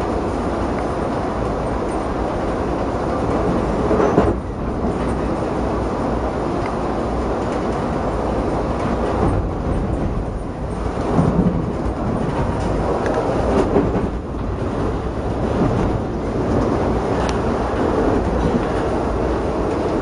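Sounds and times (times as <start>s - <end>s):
train rumbling inside coach: 0.0s - 20.0s.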